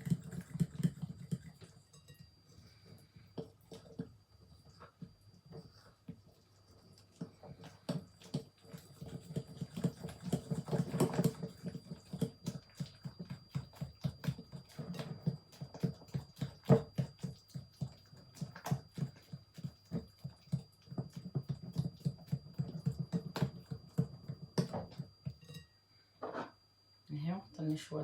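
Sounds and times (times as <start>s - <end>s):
batter beaten in a bowl: 0.0s - 25.7s.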